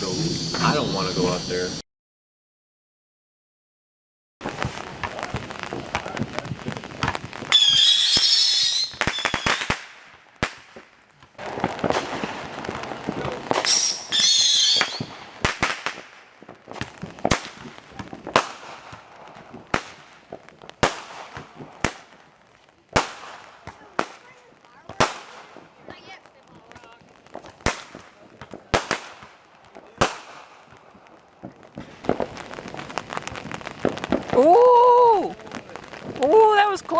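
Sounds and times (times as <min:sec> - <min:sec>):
fireworks crackling: 0:00.0 - 0:01.8, 0:04.4 - 0:36.9
fireworks whistling: 0:00.0 - 0:01.8, 0:04.4 - 0:36.9
fireworks bangs: 0:04.4 - 0:36.9.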